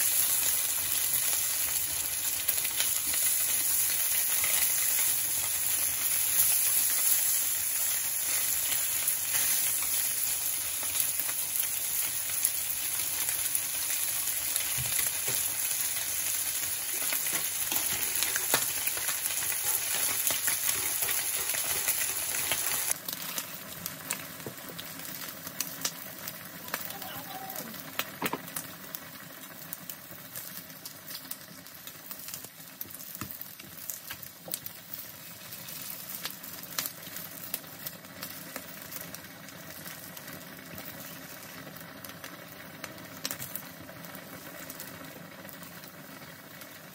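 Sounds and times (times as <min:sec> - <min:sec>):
meat sizzling in frying pan: 0:00.0 - 0:46.9.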